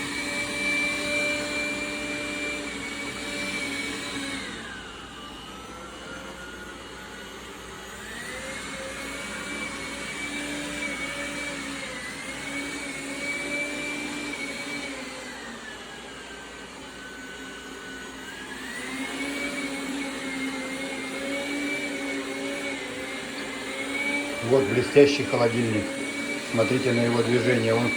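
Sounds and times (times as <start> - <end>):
robot vacuum fan whine: 0.0 - 27.9.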